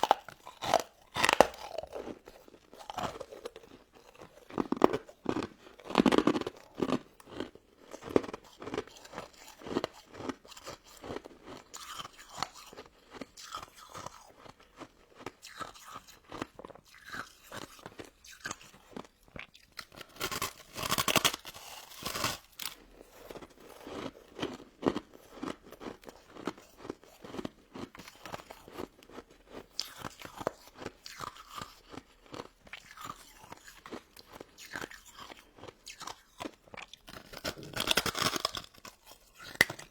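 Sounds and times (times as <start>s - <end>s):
crunching and chewing ice dessert: 0.0s - 39.9s.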